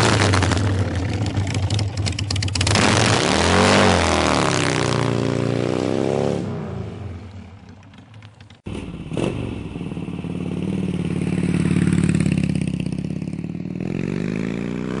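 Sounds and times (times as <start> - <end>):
motorcycle engine revving: 0.0 - 15.0
motorcycle riding off: 0.0 - 15.0.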